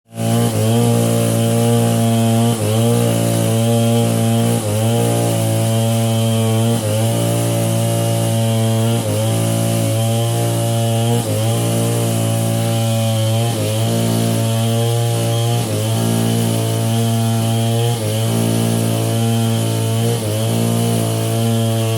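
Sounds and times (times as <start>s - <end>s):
chainsaw engine running: 0.1s - 21.9s.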